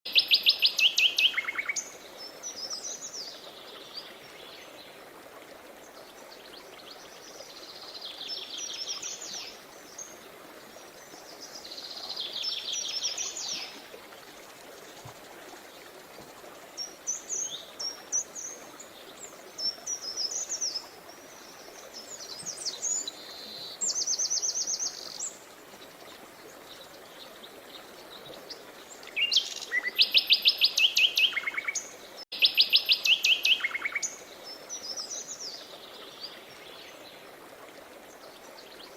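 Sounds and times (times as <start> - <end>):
flowing river water: 0.1 - 38.9.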